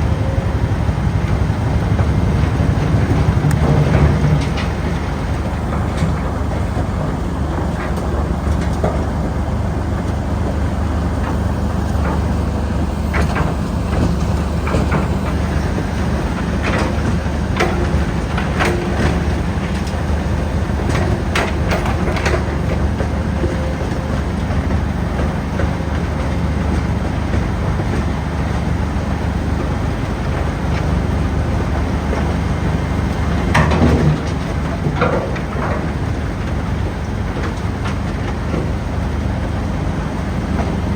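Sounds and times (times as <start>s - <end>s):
mobile crusher diesel engine running: 0.0s - 40.9s.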